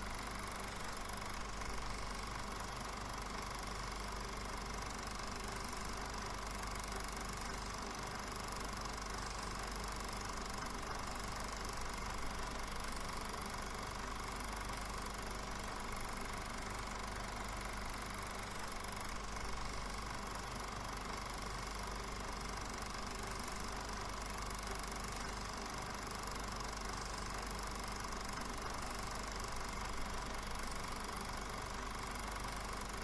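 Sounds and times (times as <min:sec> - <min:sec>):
film projector whirring: 0:00.0 - 0:33.0.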